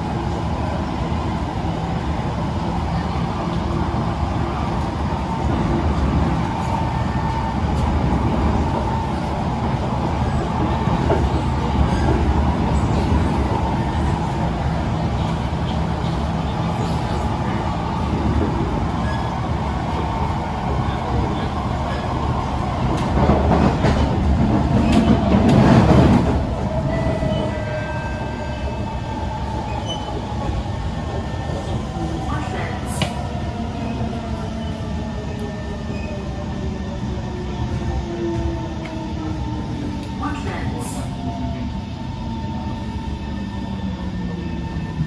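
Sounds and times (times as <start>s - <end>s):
train wheels rumbling on track: 0.0s - 45.0s.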